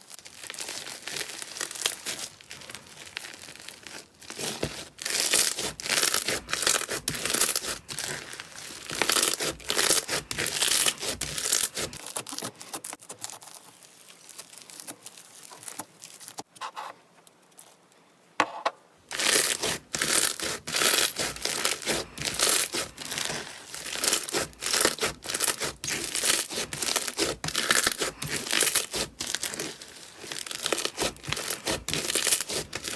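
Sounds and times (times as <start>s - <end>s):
slime crackling and popping: 0.0s - 16.4s, 19.1s - 32.9s.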